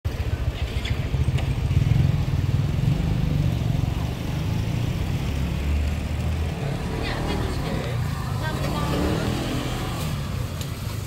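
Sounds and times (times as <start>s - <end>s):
street noise: 0.0s - 11.0s
vehicle engine rumbling: 0.1s - 11.0s.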